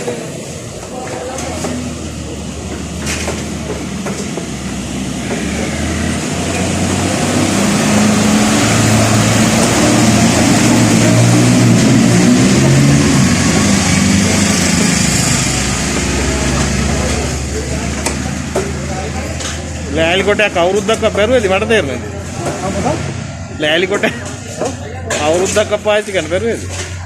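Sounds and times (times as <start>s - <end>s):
motor engine running: 1.5s - 24.4s.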